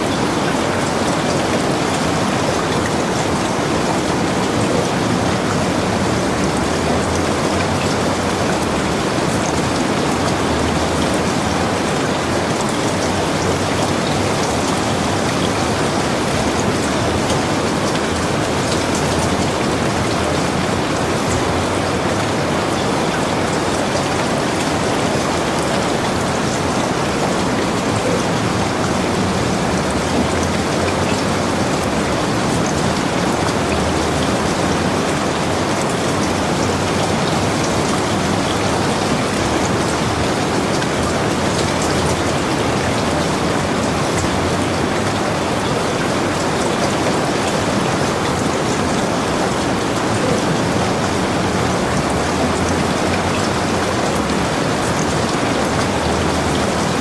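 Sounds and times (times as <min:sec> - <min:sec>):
heavy rain on a cabin: 0:00.0 - 0:57.0.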